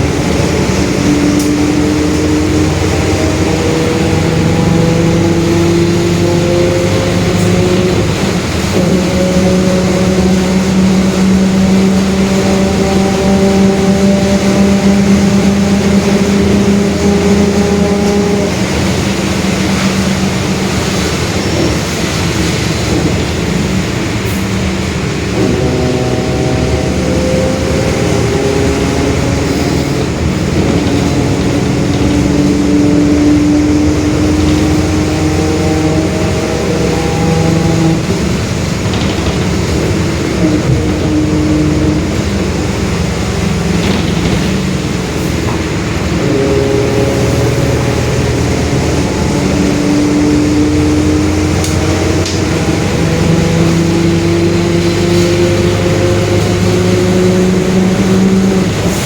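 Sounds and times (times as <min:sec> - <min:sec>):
bus diesel engine pulling under load: 0:00.0 - 0:59.0
differential growling: 0:00.0 - 0:59.0.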